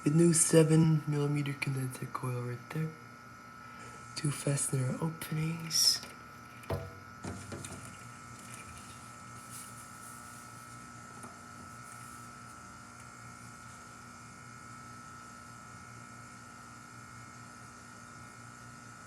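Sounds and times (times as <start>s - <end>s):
air conditioner humming with whine: 0.0s - 19.0s.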